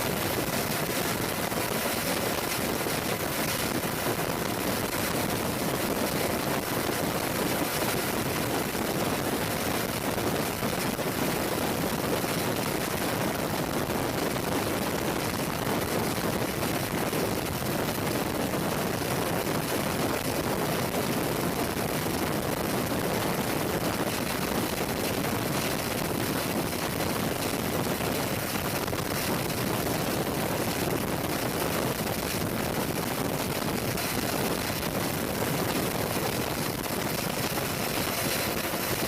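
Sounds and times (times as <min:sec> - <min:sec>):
helicopter engines and rotors: 0:00.0 - 0:39.0.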